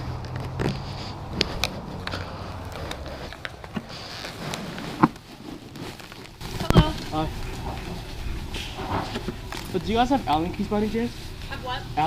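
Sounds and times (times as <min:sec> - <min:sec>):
footsteps: 0:00.0 - 0:12.0
low steady hum: 0:00.0 - 0:12.0.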